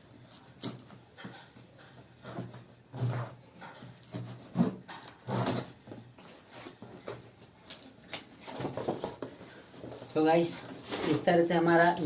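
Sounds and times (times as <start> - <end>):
packaging rustling and knocking: 0.6 - 11.2.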